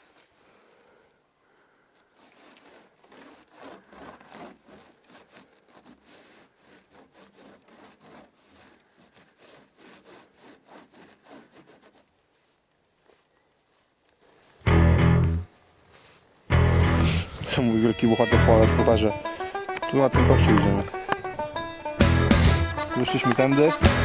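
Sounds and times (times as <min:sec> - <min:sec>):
hand rubbing snow off metal sign: 0:02.0 - 0:14.6, 0:15.6 - 0:24.0.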